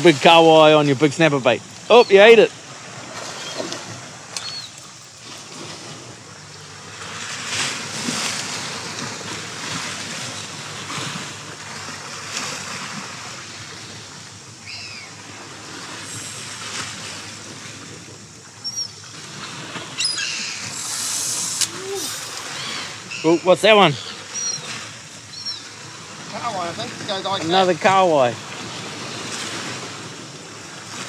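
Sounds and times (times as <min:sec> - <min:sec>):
waves washing against rocks: 0:00.0 - 0:31.0.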